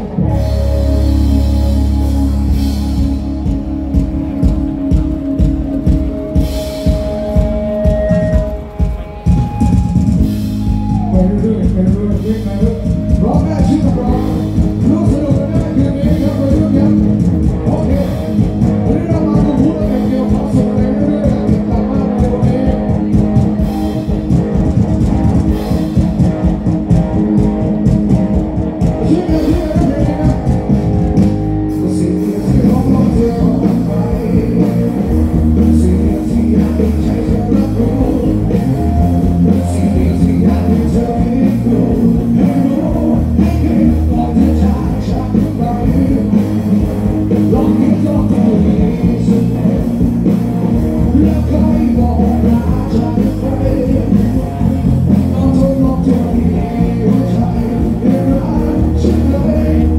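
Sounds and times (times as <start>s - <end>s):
rock music with singing: 0.0s - 59.9s.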